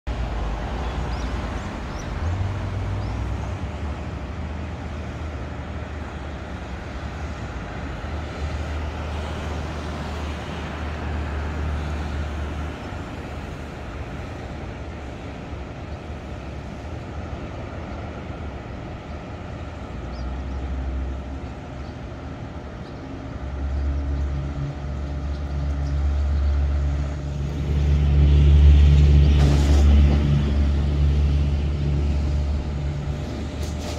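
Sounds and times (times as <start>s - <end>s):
city traffic rumble: 0.0s - 33.9s
heavy engine hum: 0.1s - 33.9s.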